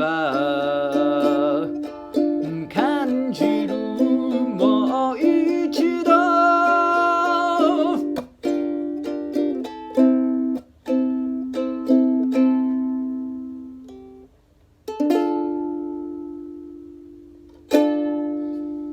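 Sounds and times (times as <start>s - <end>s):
ukulele strumming chords: 0.0s - 18.9s.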